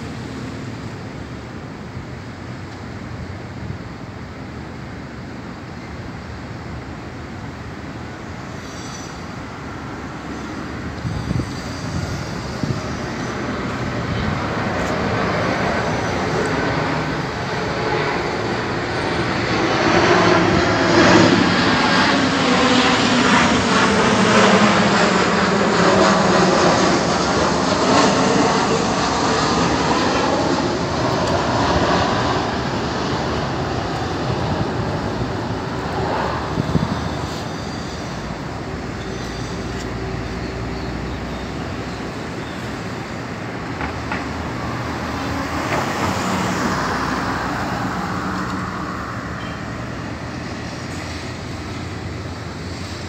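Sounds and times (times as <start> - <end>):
city traffic noise: 0.0 - 53.0
jet engine overhead: 0.0 - 53.0.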